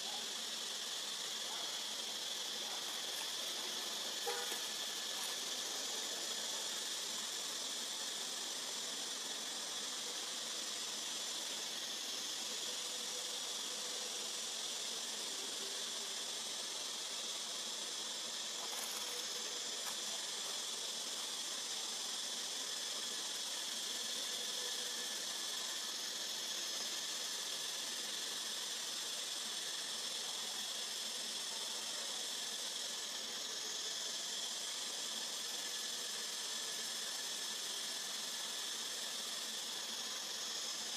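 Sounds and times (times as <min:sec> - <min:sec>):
insect chorus drone: 0:00.0 - 0:40.9.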